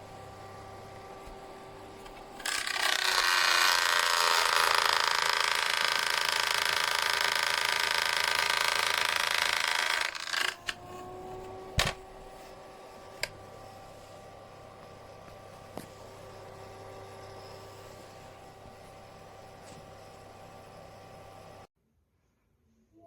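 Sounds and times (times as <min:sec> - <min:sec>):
fan heater running: 0:00.0 - 0:21.7.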